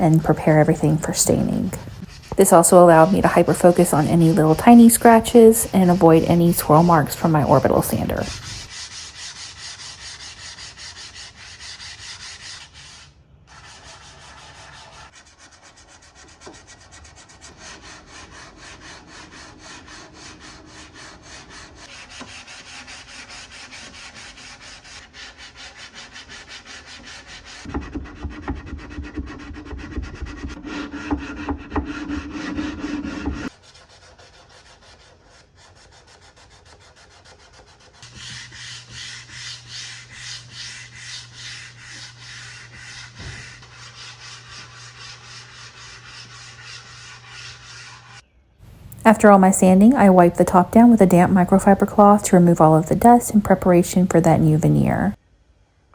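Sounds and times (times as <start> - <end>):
hand sanding wood: 0.0 - 55.1.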